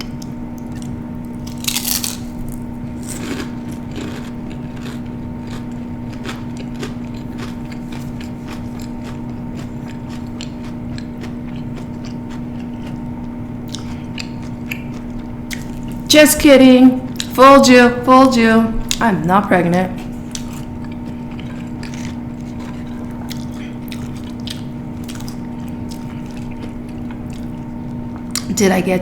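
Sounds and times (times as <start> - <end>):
chewing food: 0.0 - 16.1, 20.2 - 28.5
steady hum: 0.0 - 29.0.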